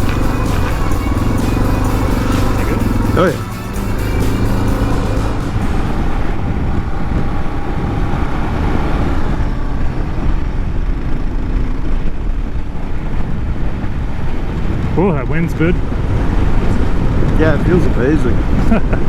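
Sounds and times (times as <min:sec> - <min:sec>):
motorcycle engine running: 0:00.0 - 0:18.9
wind buffeting microphone: 0:00.0 - 0:19.0.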